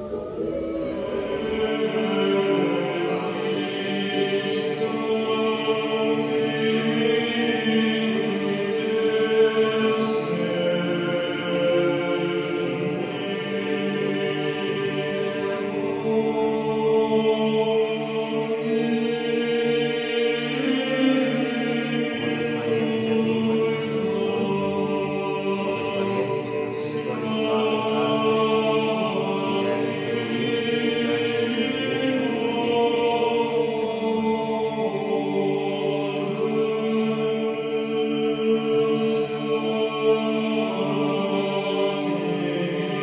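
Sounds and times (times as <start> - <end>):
choir singing chant: 0.0 - 43.0.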